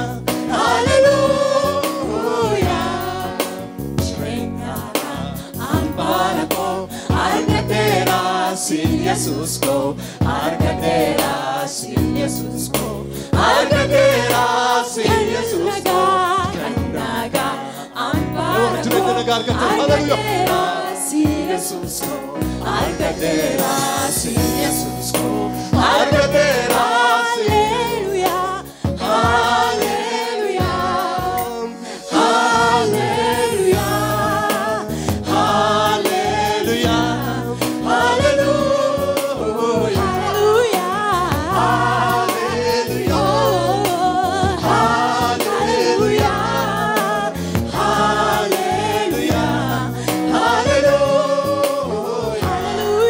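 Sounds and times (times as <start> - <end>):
choir singing gospel: 0.0 - 53.0
instrumental backing with beat: 0.0 - 53.0.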